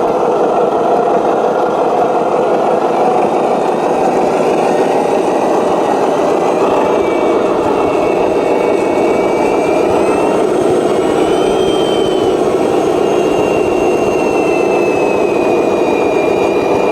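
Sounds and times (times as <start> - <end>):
faint high whine: 0.0 - 16.9
model truck motor drone: 0.0 - 16.9.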